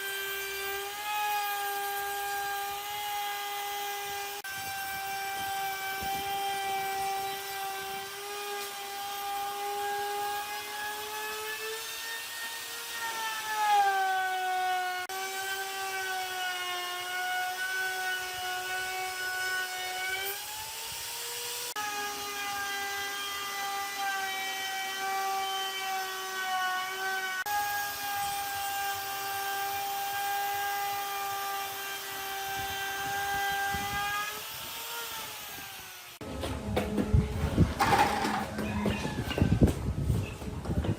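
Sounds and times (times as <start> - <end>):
power tool motor whine: 0.0 - 16.8, 17.4 - 40.4.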